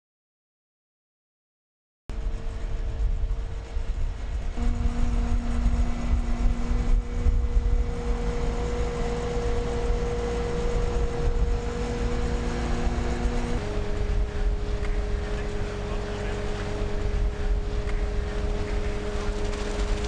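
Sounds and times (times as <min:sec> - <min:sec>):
skid-steer loader running: 0:02.1 - 0:20.0
steady hum: 0:02.1 - 0:20.0.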